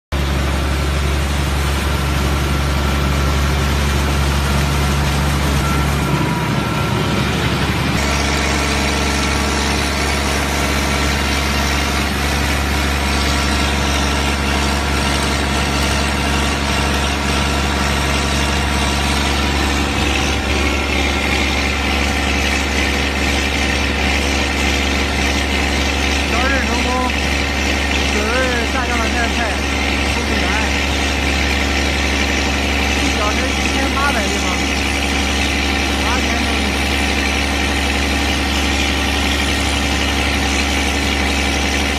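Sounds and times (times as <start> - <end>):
diesel engine humming: 0.1 - 41.9
water pouring from a pipe: 0.2 - 41.9.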